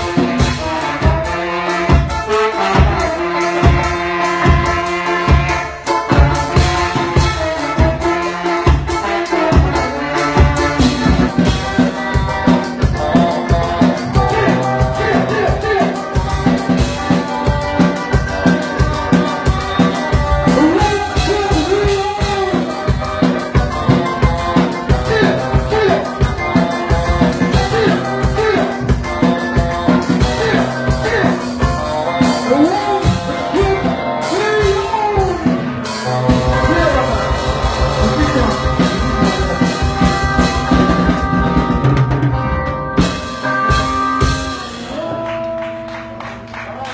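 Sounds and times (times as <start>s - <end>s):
fast drum beat: 0.0s - 44.8s
band playing music: 0.0s - 46.9s.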